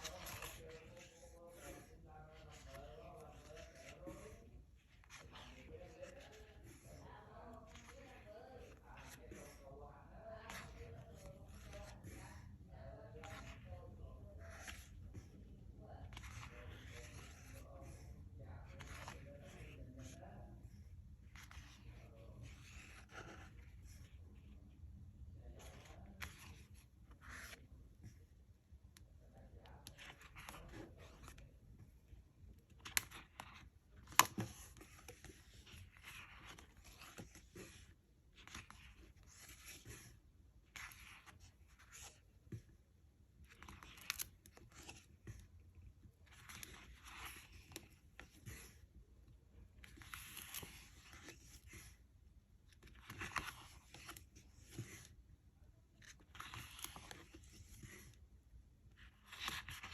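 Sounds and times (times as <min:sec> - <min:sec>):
pages being flipped: 0:00.0 - 0:24.6, 0:25.4 - 0:28.2, 0:29.6 - 0:31.5, 0:32.5 - 0:42.8, 0:43.4 - 0:48.8, 0:49.7 - 0:52.0, 0:52.7 - 0:55.2, 0:56.0 - 0:58.2, 0:58.8 - 0:59.9.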